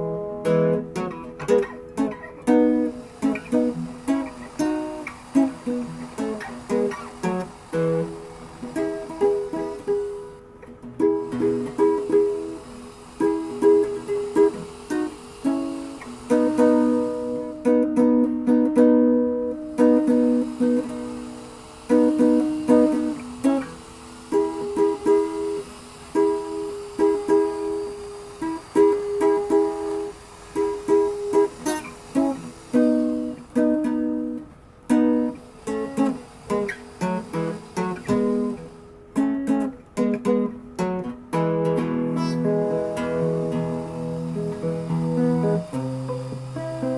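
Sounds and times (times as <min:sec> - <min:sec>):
plucked string instrument music: 0:00.0 - 0:46.9.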